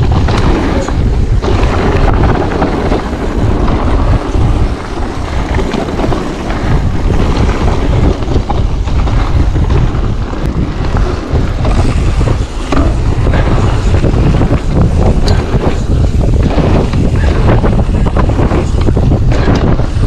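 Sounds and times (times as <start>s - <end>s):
bike clicks and clatter: 0.0s - 20.0s
low rumble: 0.0s - 20.0s
wind buffeting microphone: 0.0s - 20.0s.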